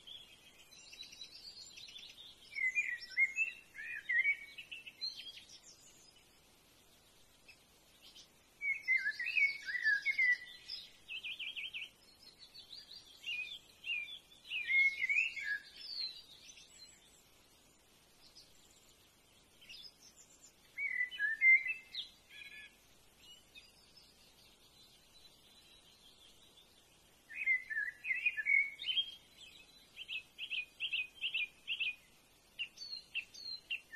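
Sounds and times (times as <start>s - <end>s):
songbirds warbling: 0.0s - 33.9s.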